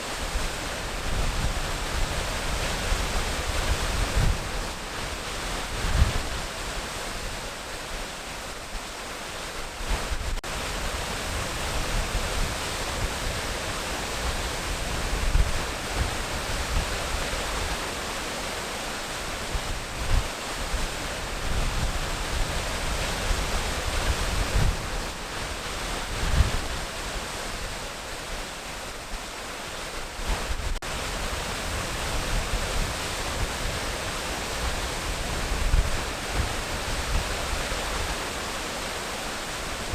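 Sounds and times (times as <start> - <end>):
low water rumbles: 0.0 - 39.9
waterfall rushing: 0.0 - 39.9.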